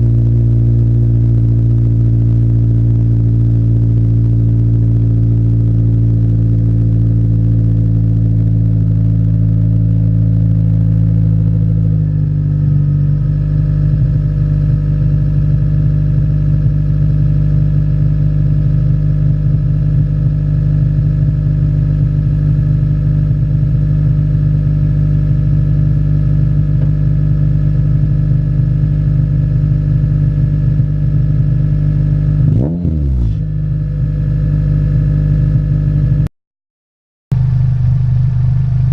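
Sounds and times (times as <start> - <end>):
car engine exhaust drone: 0.0 - 36.3, 37.3 - 38.9.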